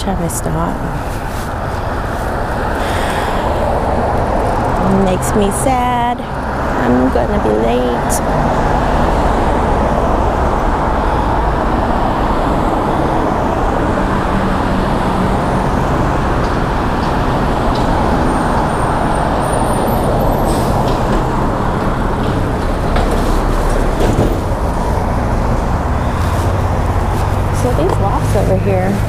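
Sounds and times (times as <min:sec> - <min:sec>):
cars and truck driving past: 0:00.0 - 0:29.0.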